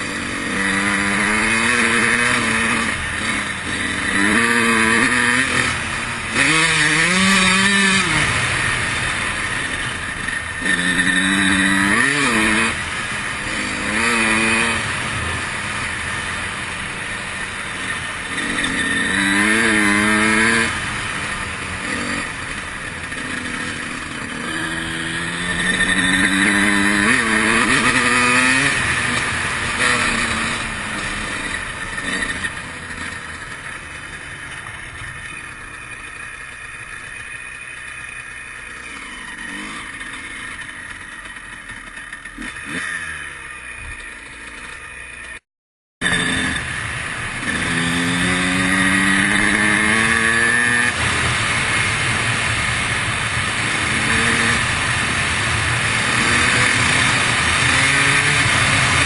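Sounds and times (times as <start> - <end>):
two-stroke engine revving: 0.0 - 45.4, 46.0 - 59.0.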